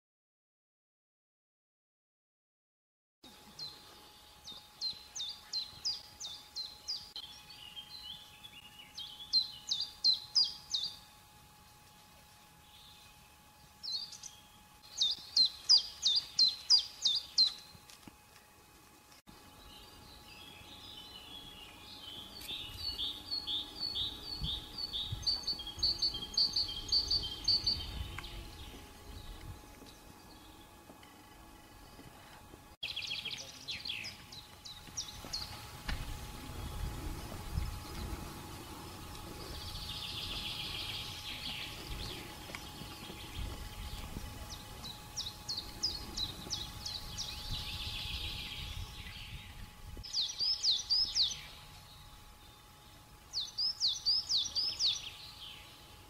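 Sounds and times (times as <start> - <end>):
songbirds singing: 3.3 - 18.0, 19.3 - 56.0.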